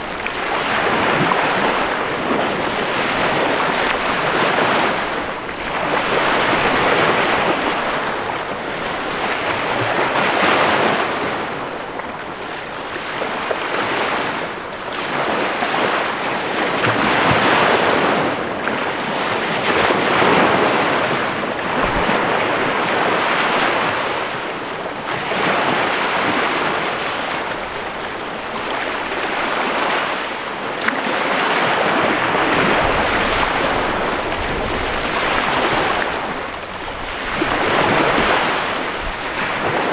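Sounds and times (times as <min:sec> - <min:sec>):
waves breaking on sandy shore: 0:00.0 - 0:39.9.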